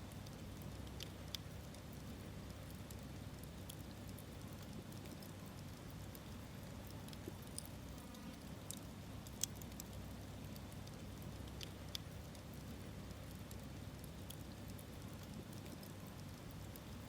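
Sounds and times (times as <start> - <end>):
low steady rumble: 0.0 - 17.0
campfire crackling: 0.1 - 17.0.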